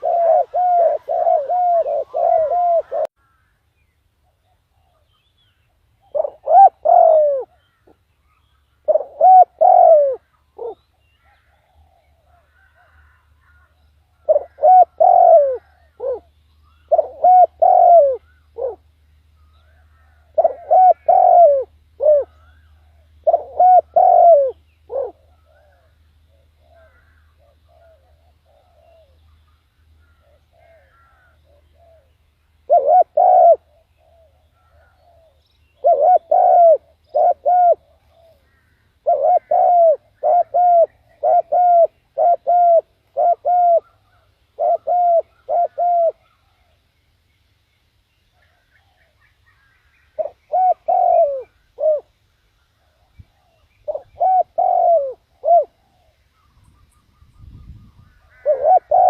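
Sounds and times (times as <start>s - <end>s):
dove cooing: 0.0s - 3.2s, 6.0s - 8.0s, 8.8s - 18.9s, 19.6s - 46.8s, 48.4s - 52.2s, 52.8s - 59.0s.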